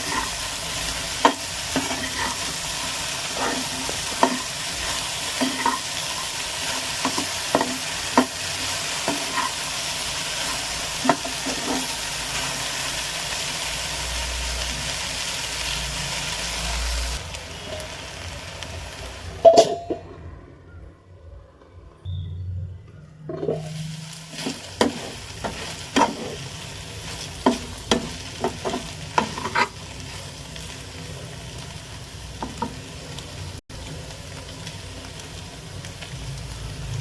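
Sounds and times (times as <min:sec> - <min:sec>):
okra sizzling in oil: 0:00.0 - 0:19.9, 0:23.4 - 0:37.0.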